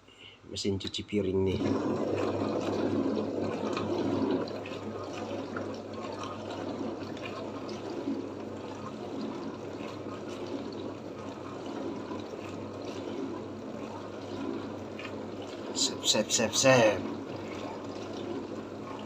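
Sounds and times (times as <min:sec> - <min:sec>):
pump motor hum: 0:01.3 - 0:19.0
water sloshing and spraying: 0:01.5 - 0:19.0.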